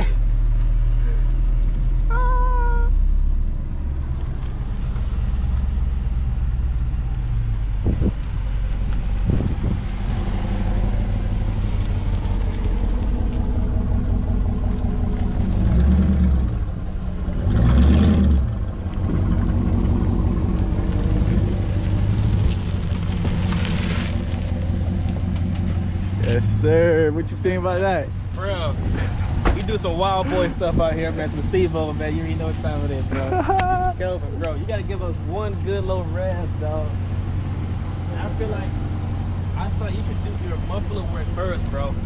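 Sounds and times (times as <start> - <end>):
car engine rumbling: 0.0 - 42.0.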